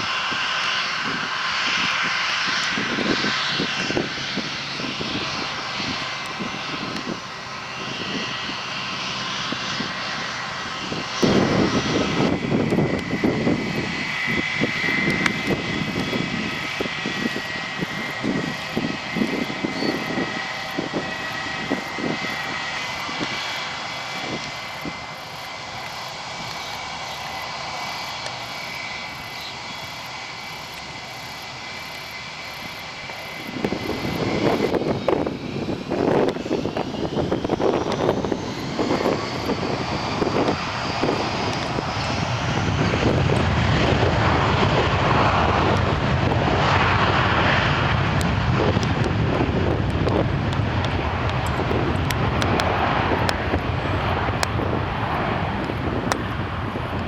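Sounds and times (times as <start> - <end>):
jet engines whining: 0.0 - 57.0
wind buffeting microphone: 0.0 - 57.0.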